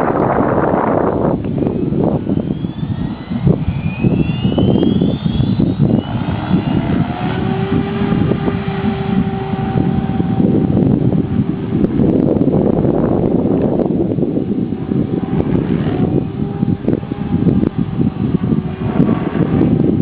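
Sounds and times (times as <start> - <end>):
helicopter rumble: 0.0 - 20.0
high whine: 0.0 - 20.0
wind buffeting microphone: 0.0 - 20.0.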